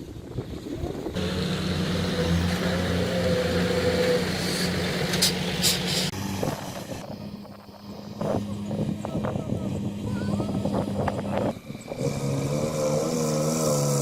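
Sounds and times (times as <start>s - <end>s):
heavy diesel engine running: 0.5s - 12.8s.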